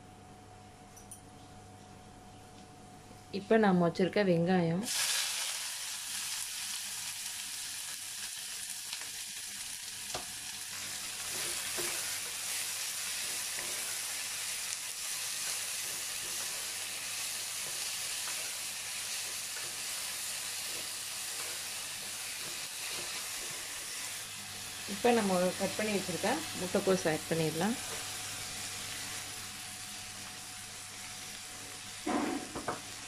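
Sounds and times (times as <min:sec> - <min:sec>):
onions sizzling in hot oil: 0:04.8 - 0:33.0.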